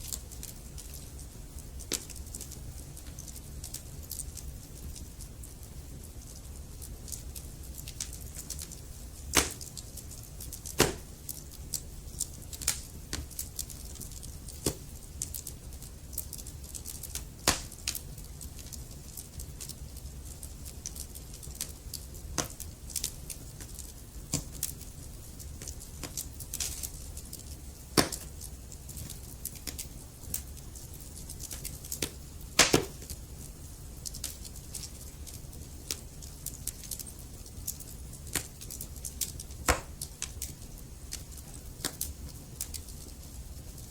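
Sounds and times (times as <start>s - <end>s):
low rumble of flame: 0.0s - 43.9s
wood fire crackling and popping: 0.0s - 43.9s.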